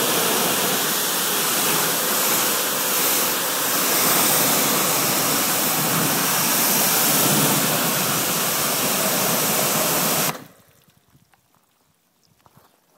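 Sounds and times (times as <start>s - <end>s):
water spray hissing on car: 0.0s - 10.6s.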